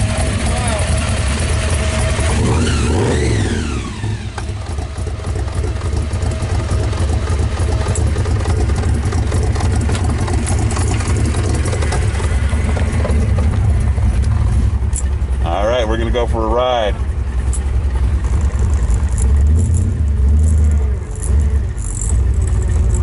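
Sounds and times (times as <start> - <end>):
deep engine idle: 0.0 - 23.0
engine revving: 0.0 - 23.0.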